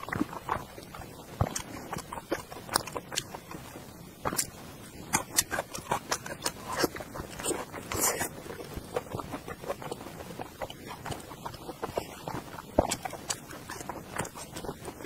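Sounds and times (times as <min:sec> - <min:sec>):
wet chewing and lip smacks: 0:00.0 - 0:15.0.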